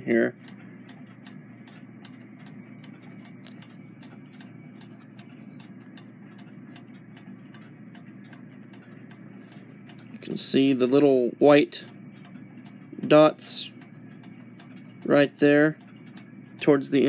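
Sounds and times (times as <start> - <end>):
low room hum: 0.0 - 17.0
faint clicks and ticks: 0.4 - 11.1, 11.8 - 17.0.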